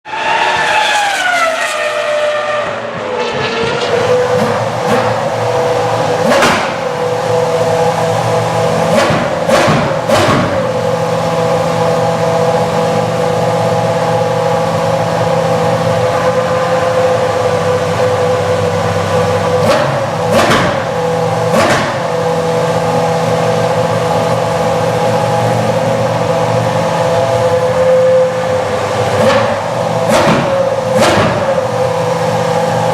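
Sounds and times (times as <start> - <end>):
engine throttle blips: 0.1 - 32.9
racing car engine idling: 2.5 - 32.9.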